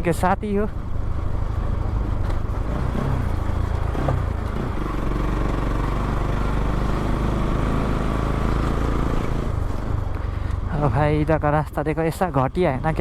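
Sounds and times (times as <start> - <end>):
motorcycle engine running: 0.7 - 11.2.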